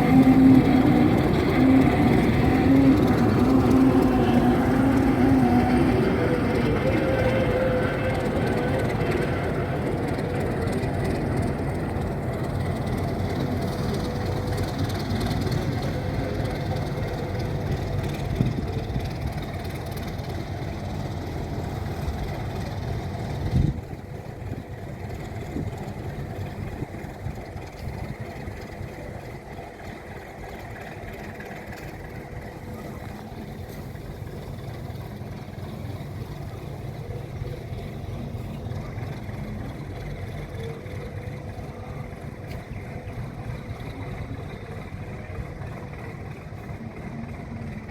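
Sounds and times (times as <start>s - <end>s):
diesel locomotive rumbling: 0.0s - 47.9s.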